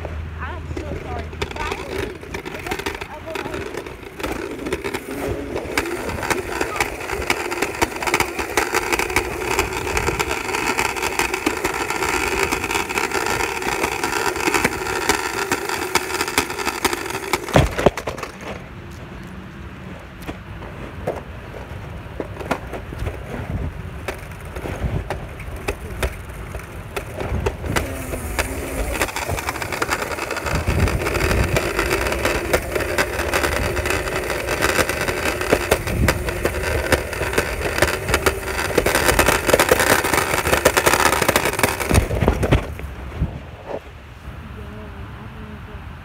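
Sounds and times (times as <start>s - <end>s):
sharp clicks and knocks: 0.0s - 18.6s, 20.2s - 42.9s
scooter wheels rolling on pavement: 0.0s - 45.6s.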